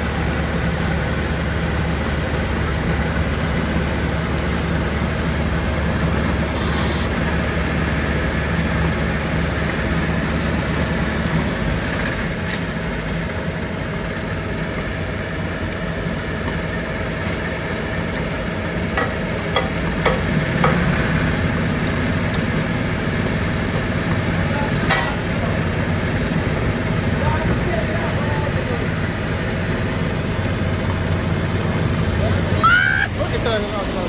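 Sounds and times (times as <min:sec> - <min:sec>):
heavy machinery running: 0:00.0 - 0:12.6, 0:17.1 - 0:34.0.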